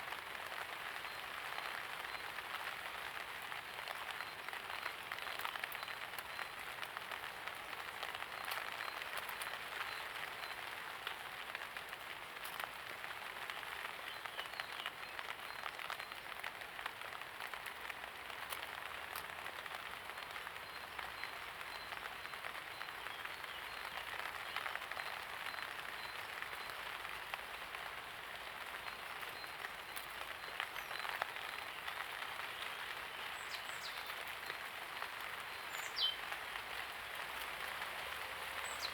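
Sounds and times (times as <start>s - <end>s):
light rain with drop hits: 0.0s - 38.9s.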